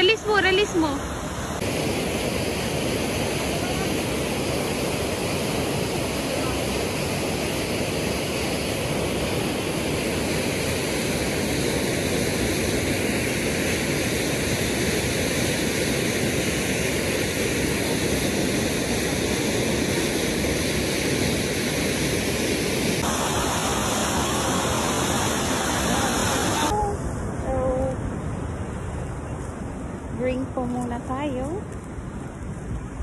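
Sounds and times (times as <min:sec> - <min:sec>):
water rushing through a dam: 0:00.0 - 0:27.2.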